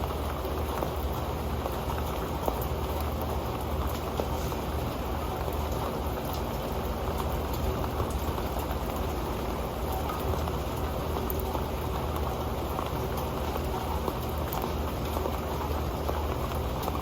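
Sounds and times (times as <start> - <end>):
raindrops ticking on metal pan: 0.1 - 17.0.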